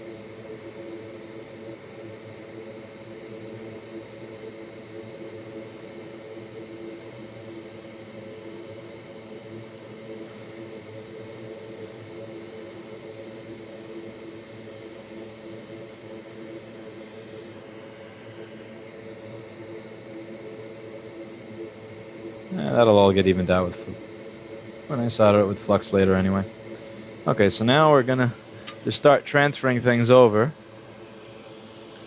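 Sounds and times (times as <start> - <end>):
fan whirring with low hum: 0.0 - 32.0.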